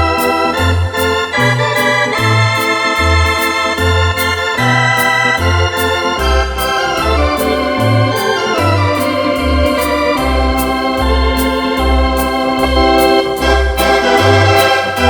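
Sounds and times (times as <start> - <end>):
keyboard organ chords and bass: 0.0 - 15.0.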